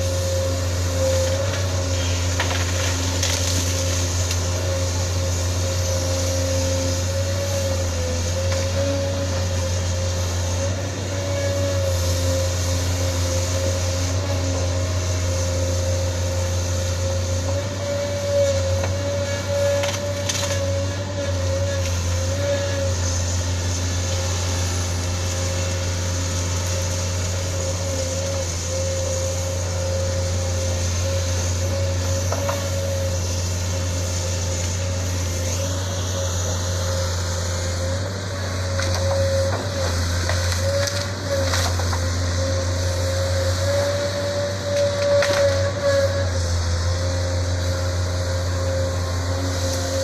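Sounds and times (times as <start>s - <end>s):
diesel engine running: 0.0s - 50.0s
engine whine: 0.0s - 50.0s.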